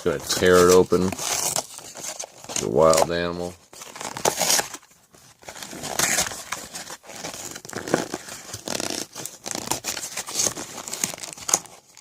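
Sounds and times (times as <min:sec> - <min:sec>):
cardboard ripping: 0:00.0 - 0:12.0.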